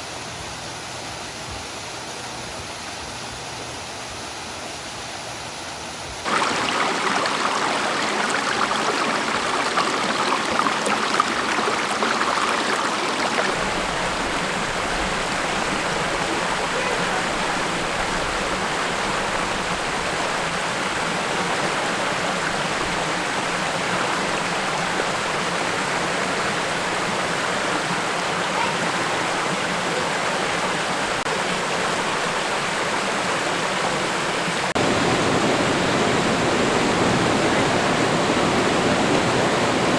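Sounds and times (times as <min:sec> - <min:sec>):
fast-flowing water rushing: 0:06.2 - 0:39.9.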